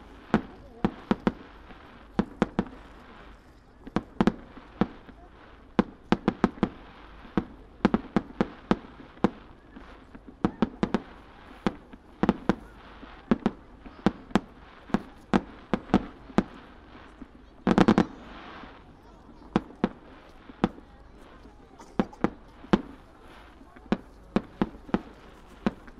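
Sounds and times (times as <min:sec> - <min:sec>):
fireworks bursting with sharp bangs: 0:00.0 - 0:25.9.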